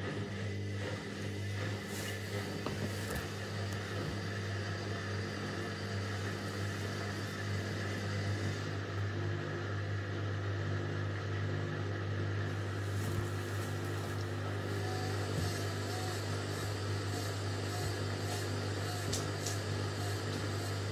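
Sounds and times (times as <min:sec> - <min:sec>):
washing machine humming: 0:00.0 - 0:20.9.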